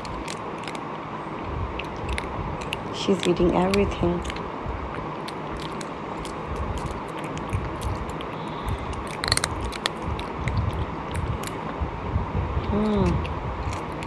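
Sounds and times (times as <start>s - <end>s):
close-up chewing: 0.0s - 11.8s, 12.8s - 14.0s.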